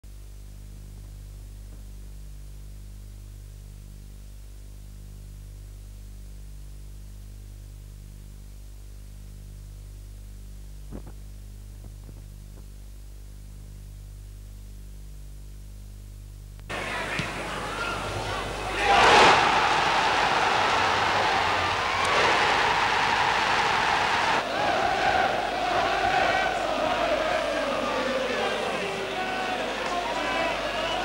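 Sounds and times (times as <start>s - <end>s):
electrical hum with hiss: 0.1s - 31.0s.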